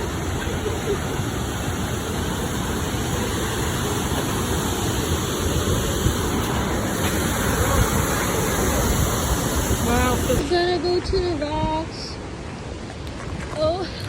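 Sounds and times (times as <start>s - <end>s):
rushing water roar: 0.0s - 14.0s.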